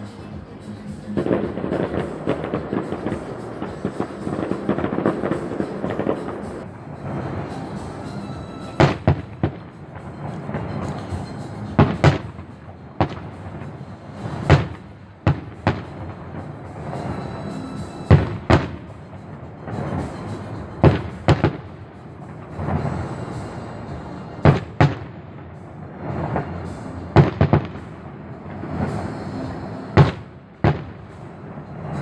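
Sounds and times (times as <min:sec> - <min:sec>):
background music: 0:00.0 - 0:32.0
fireworks bangs: 0:01.0 - 0:32.0.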